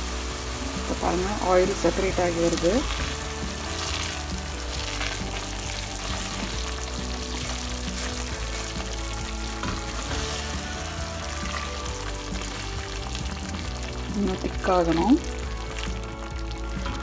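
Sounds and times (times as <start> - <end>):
chutney sizzling in a frying pan: 0.0 - 17.0
spatula stirring: 0.0 - 17.0.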